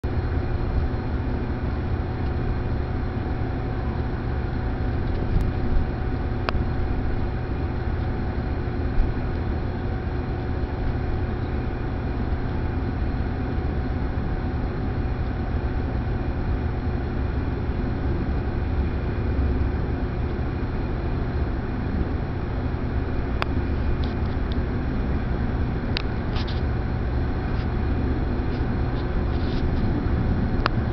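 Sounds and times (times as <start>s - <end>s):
faint steady hum: 0.0s - 30.9s
low rumble: 0.0s - 30.9s.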